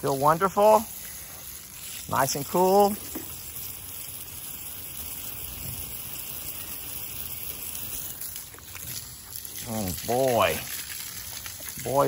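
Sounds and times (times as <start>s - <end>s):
garden hose spraying water: 0.0s - 12.0s
spray splashing on ground: 0.0s - 12.0s.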